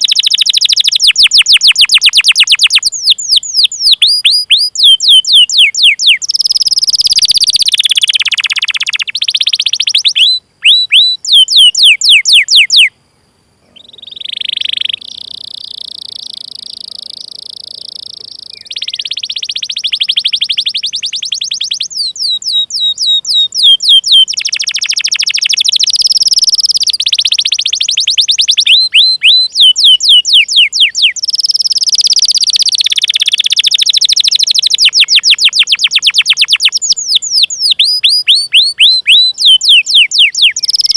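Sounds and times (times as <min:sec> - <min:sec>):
canary singing: 0:00.0 - 0:13.0, 0:13.7 - 0:40.9.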